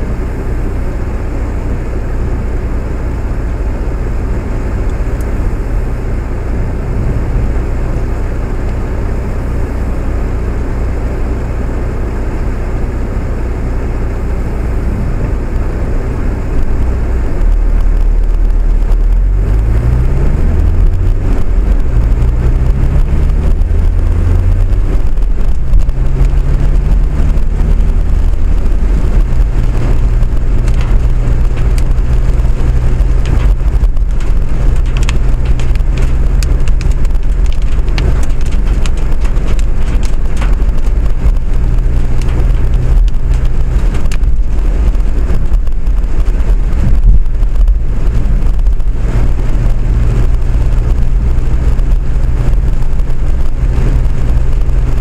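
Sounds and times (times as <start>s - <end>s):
vehicle rumble speeding up: 0.0s - 55.0s.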